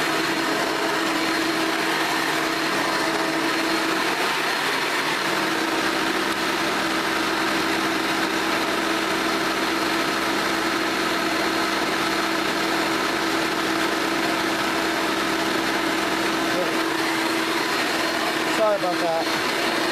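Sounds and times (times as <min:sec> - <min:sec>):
vacuum cleaner running: 0:00.0 - 0:19.9.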